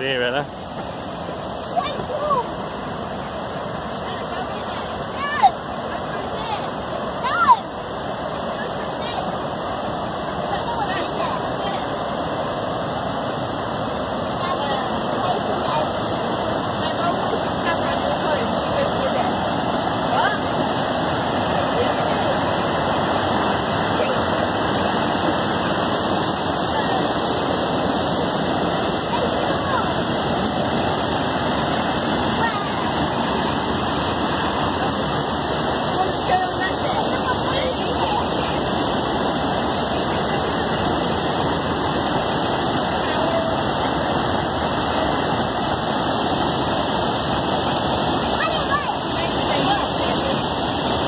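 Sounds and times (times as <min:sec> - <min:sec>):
water rushing over weir: 0:00.0 - 0:51.0.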